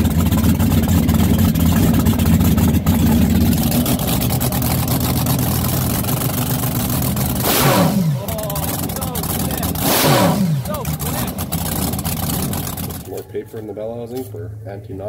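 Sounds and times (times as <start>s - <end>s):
loud mechanical drone: 0.0s - 13.1s.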